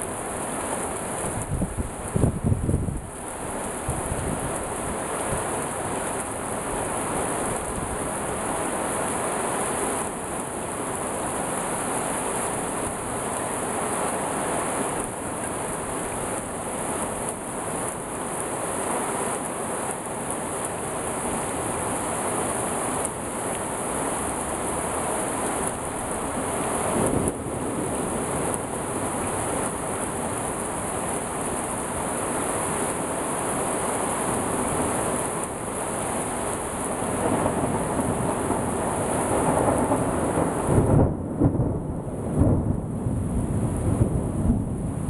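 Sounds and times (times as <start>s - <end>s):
heavy rain on wet street: 0.0s - 45.0s.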